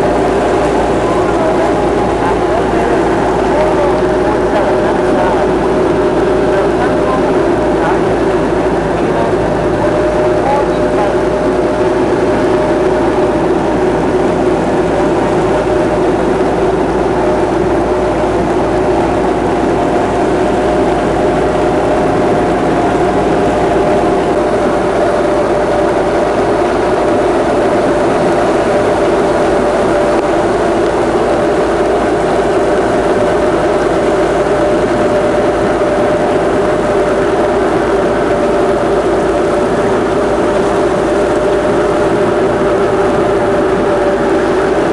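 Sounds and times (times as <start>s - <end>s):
motorboat engine drone: 0.0s - 44.9s.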